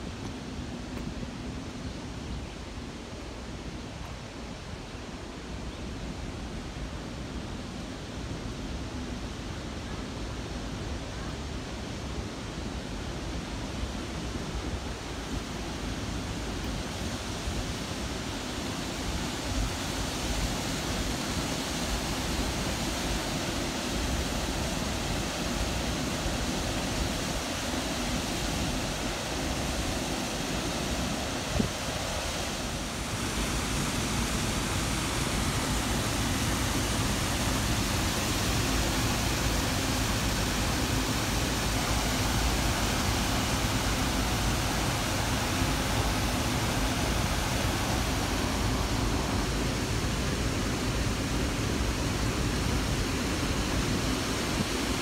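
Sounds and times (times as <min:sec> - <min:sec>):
water rushing over a spillway: 0:08.5 - 0:55.0.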